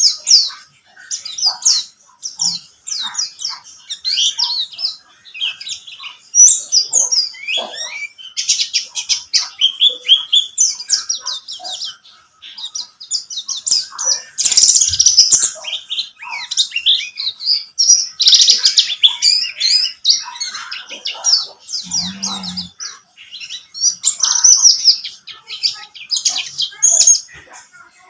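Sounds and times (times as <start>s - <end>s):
bird twittering song: 0.0s - 28.0s.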